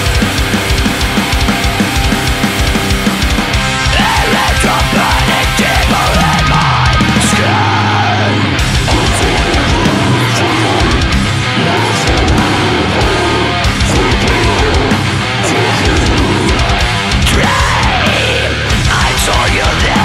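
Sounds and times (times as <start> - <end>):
drum kit with rapid kick drum: 0.0 - 7.6, 8.6 - 20.0
electric guitars: 0.0 - 20.0.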